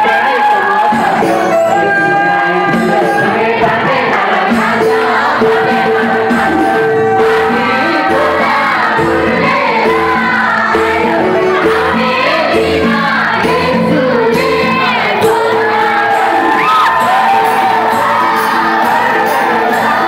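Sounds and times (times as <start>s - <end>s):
choir singing: 0.0s - 20.0s
music with steady beat: 0.0s - 20.0s.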